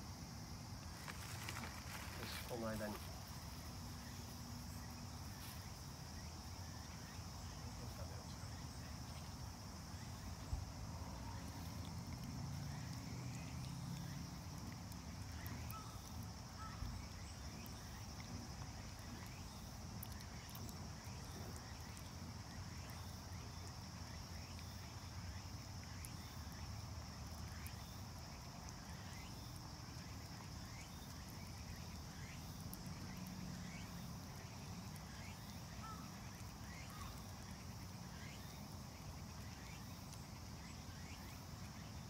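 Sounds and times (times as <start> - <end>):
insect drone: 0.0 - 42.0.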